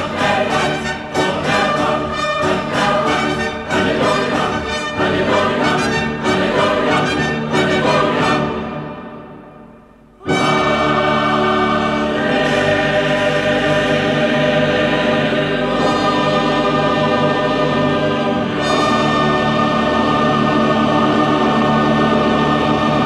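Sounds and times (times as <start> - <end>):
choir and orchestra: 0.0 - 23.0.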